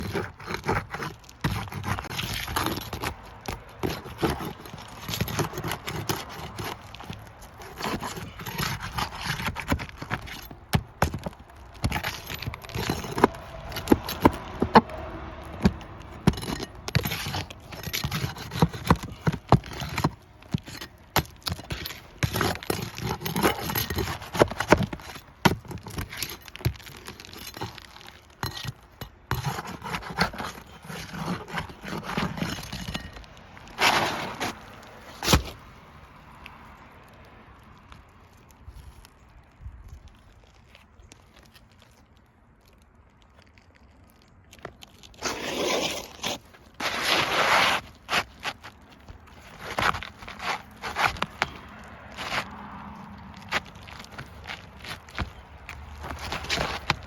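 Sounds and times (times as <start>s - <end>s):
hard objects clattering and scraping: 0.0s - 35.6s, 44.6s - 57.0s.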